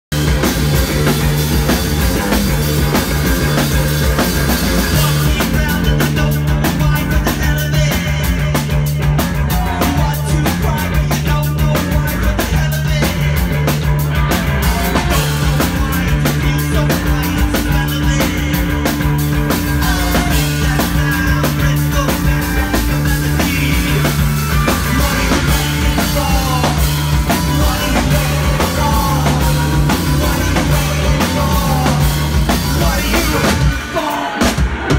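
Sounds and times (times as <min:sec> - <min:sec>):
driving drum kit beat: 0:00.0 - 0:34.9
live rock band playing: 0:00.1 - 0:34.9.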